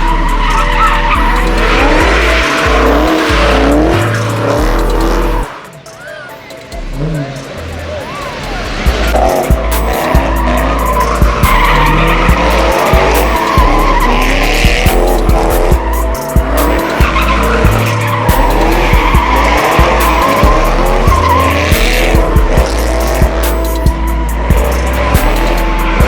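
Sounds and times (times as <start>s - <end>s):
car engine revving: 0.0s - 5.9s, 6.5s - 26.0s
music with heavy bass beat: 0.0s - 26.0s
tyres squealing: 0.0s - 26.0s.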